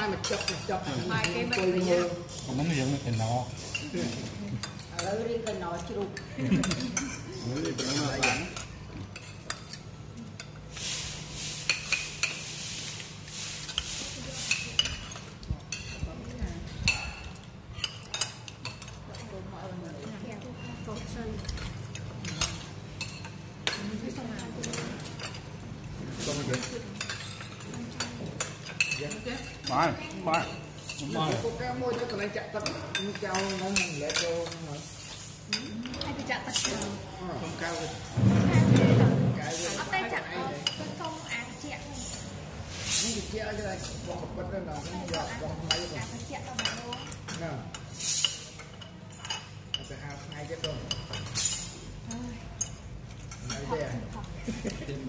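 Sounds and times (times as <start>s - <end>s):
cutlery clinking on plates: 0.0s - 55.0s.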